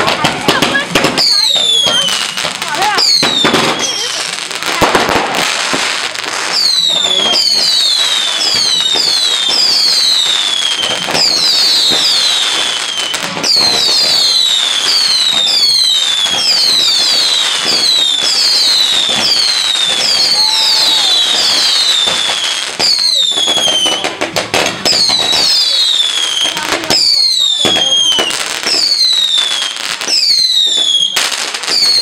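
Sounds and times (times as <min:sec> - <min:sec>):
whistling firework: 0:00.0 - 0:32.0.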